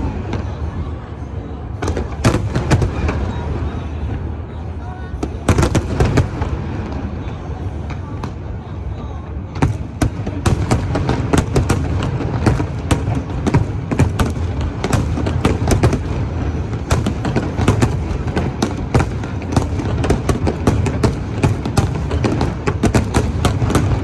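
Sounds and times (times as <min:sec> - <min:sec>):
fireworks bangs and pops: 0:01.8 - 0:03.5, 0:05.2 - 0:08.5, 0:09.5 - 0:24.0.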